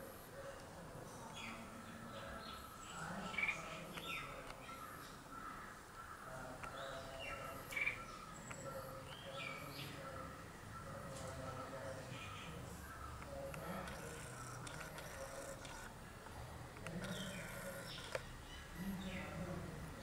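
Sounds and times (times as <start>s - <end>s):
steady background noise: 0.0s - 20.0s
bird singing: 1.2s - 15.8s, 17.0s - 19.4s.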